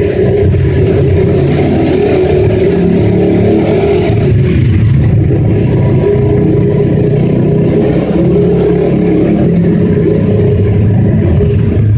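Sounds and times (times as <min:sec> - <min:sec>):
pit bike engine echoing: 0:00.0 - 0:11.9.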